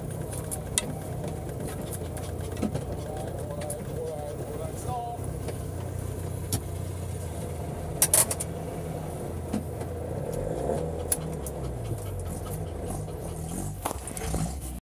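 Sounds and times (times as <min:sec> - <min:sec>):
small two-stroke engine running: 0:00.0 - 0:14.8.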